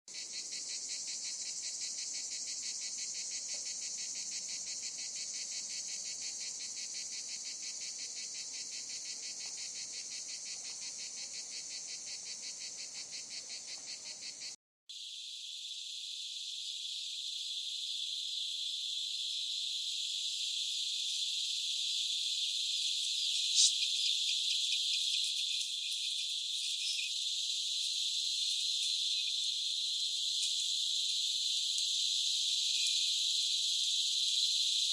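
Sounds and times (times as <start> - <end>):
cicadas buzzing: 0.1 - 34.9.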